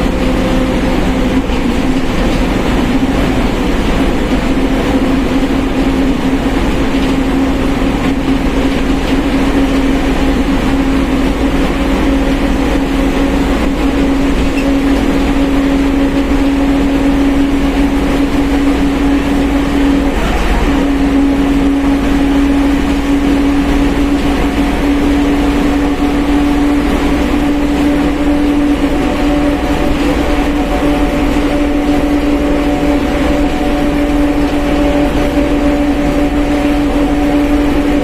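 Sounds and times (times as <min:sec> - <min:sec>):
bus engine running: 0:00.0 - 0:38.0
differential whine: 0:00.0 - 0:38.0
road noise: 0:00.0 - 0:38.0.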